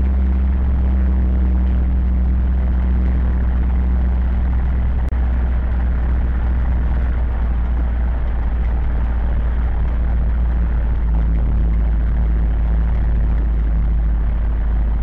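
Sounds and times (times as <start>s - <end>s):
tractor diesel engine hum: 0.0s - 15.0s.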